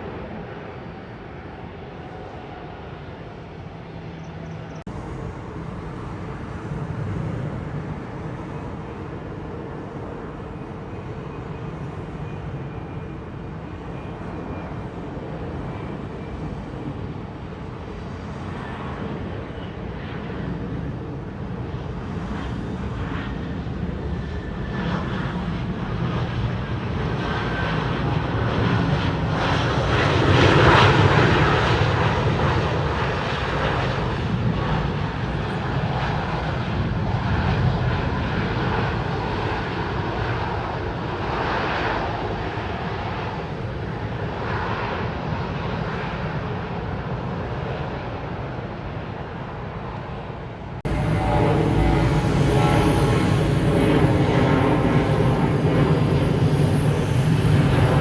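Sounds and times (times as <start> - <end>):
jet passing by: 0.0 - 58.0.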